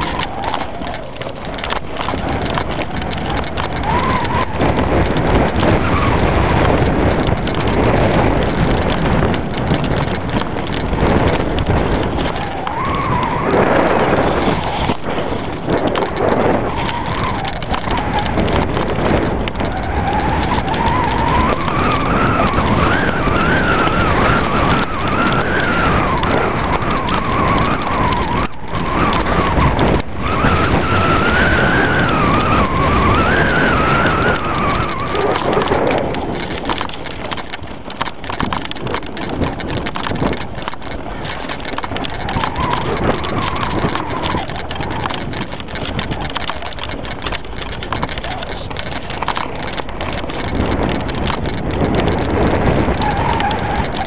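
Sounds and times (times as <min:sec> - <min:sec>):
bike tyre and frame rattle: 0:00.0 - 0:54.0
wind on microphone: 0:00.0 - 0:54.0.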